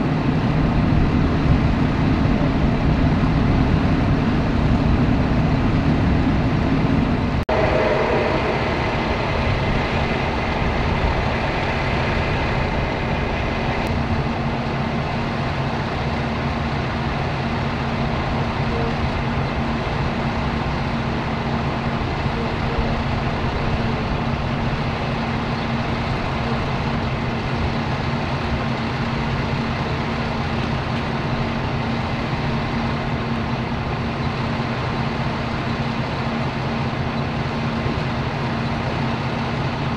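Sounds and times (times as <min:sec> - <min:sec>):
large vehicle engine idling: 0:00.0 - 0:39.9.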